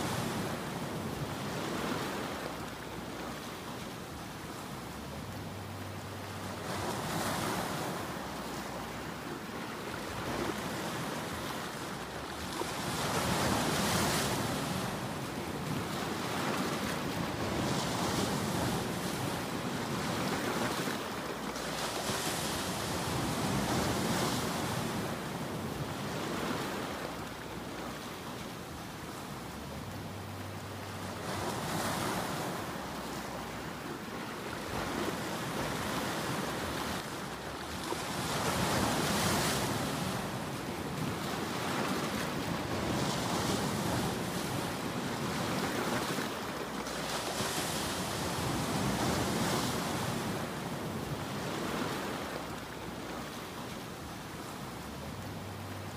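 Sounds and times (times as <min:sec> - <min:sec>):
ocean waves breaking: 0:00.0 - 0:55.9.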